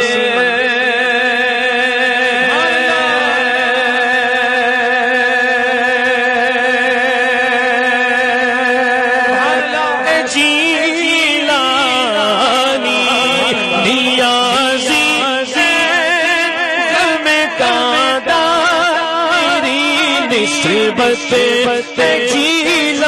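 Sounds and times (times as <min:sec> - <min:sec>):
man singing with vibrato: 0:00.0 - 0:23.0.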